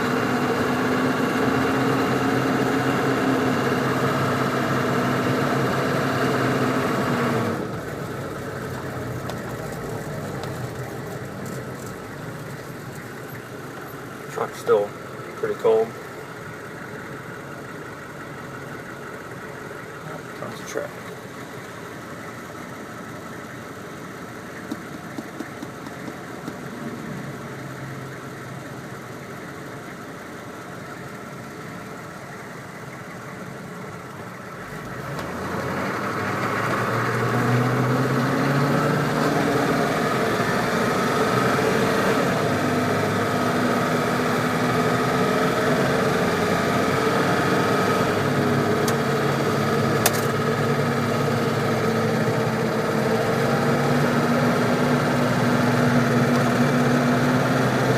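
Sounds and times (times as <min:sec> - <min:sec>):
diesel engine accelerating: 0:00.0 - 0:57.9.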